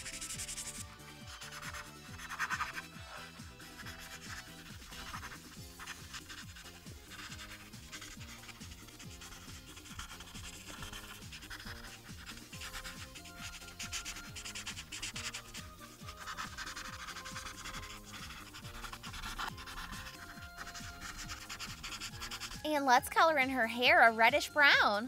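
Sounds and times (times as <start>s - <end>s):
marker scratching on paper: 0.0s - 22.6s
background music with steady beat: 0.0s - 25.0s.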